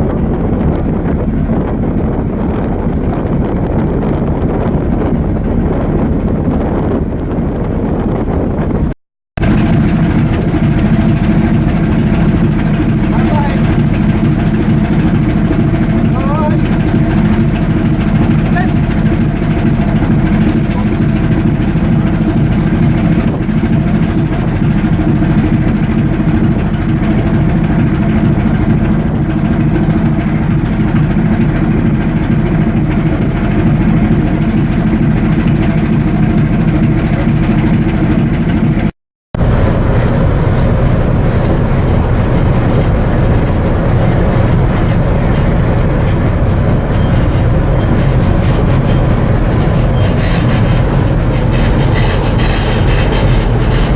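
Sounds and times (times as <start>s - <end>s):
ship diesel machinery rumble: 9.4s - 53.9s.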